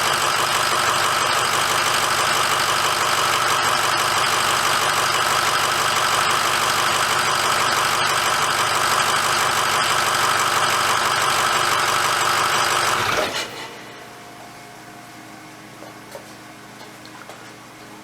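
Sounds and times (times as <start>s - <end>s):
diesel engine idling: 0.0s - 15.8s.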